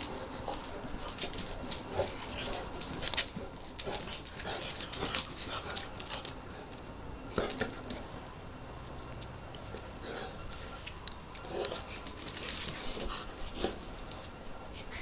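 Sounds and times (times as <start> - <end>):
dog paws clicking on paving: 0.0 - 15.0.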